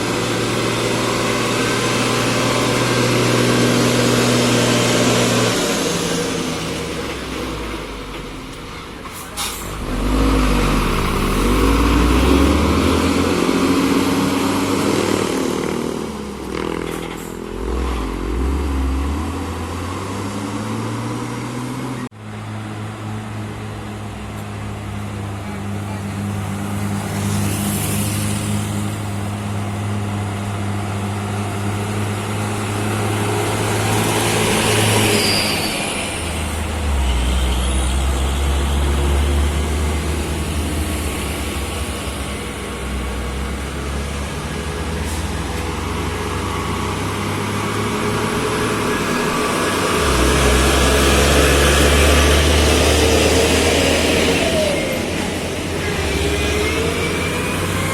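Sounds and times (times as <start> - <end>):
diesel truck engines climbing: 0.0 - 57.9.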